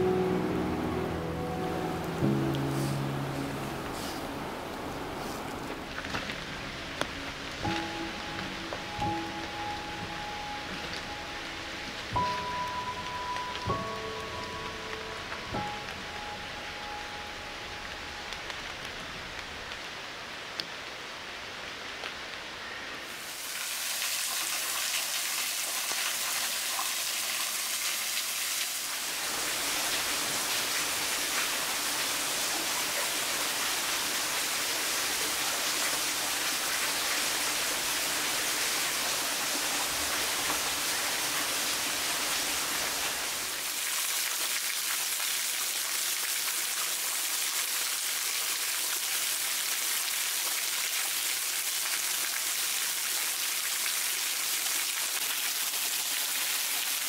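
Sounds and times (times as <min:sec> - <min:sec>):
rain falling in forest: 0:00.0 - 0:57.0.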